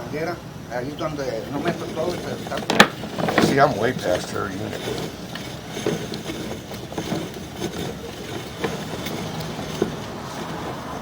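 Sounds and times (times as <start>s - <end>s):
steady mechanical hum: 0.0s - 11.0s
cable rattling and clicking: 1.6s - 11.0s.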